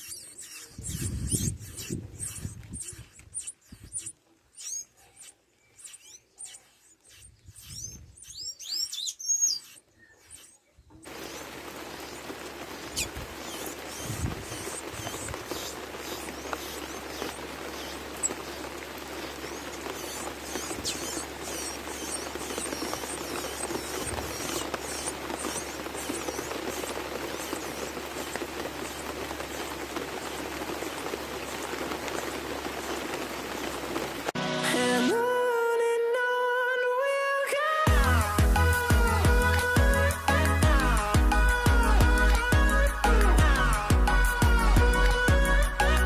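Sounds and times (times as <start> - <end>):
steady outdoor noise: 0.0 - 35.2, 37.9 - 46.0.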